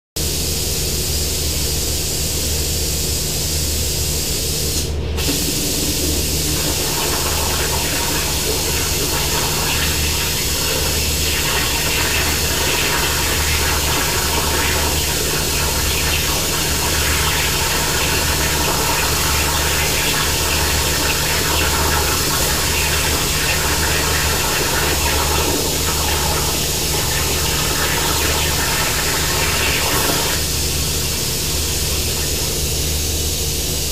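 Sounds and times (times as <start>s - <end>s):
plasma cutter hissing: 0.2s - 33.8s.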